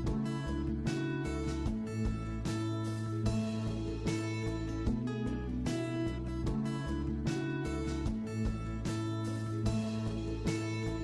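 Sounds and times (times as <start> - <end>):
bass line: 0.0 - 11.0
strummed acoustic guitar: 0.0 - 11.0.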